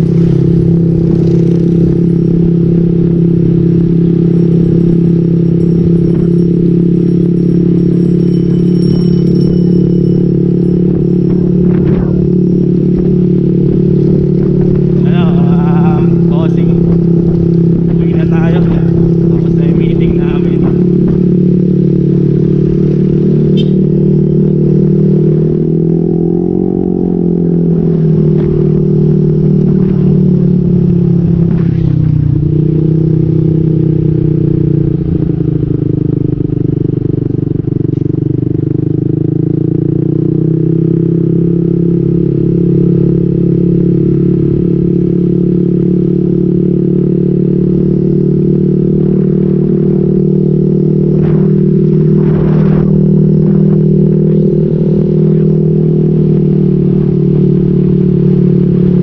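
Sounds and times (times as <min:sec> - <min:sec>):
motorcycle exhaust note: 0:00.0 - 0:59.0.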